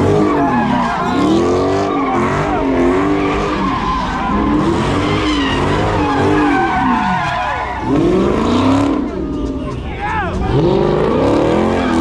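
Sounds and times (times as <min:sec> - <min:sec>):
car engine revving: 0:00.0 - 0:12.0
tyres squealing: 0:00.0 - 0:12.0.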